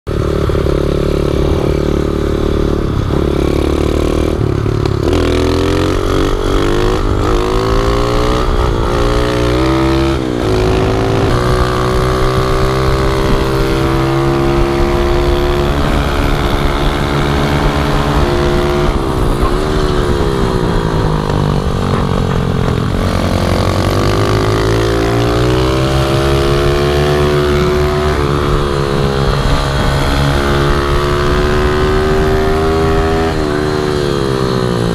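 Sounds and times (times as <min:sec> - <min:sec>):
small motorbike engine revving: 0:00.1 - 0:34.9.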